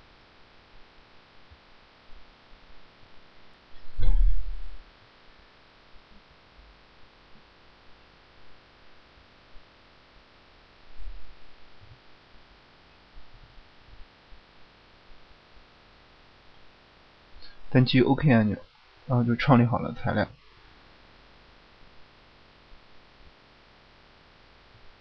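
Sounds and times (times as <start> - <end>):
faint microphone hiss and hum: 0.0 - 25.0.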